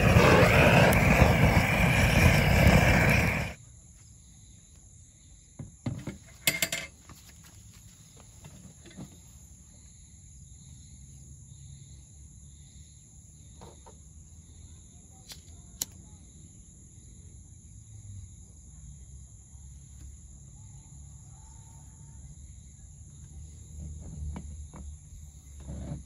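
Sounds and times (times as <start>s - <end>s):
insect chorus: 0.0s - 26.0s.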